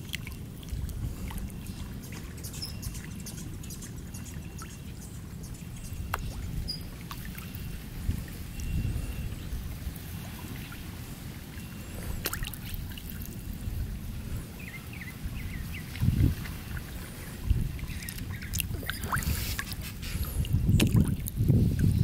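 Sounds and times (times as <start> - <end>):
fish splashing and slurping: 0.0 - 22.0
water sloshing around hand: 0.0 - 22.0.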